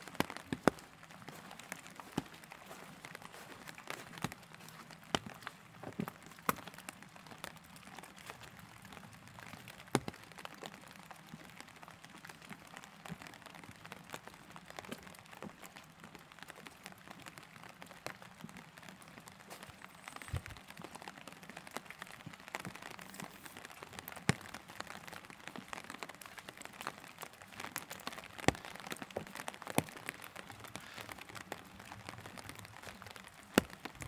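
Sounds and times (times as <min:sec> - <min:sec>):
light rain falling: 0:00.0 - 0:34.0
raindrops tapping close by: 0:00.0 - 0:34.0.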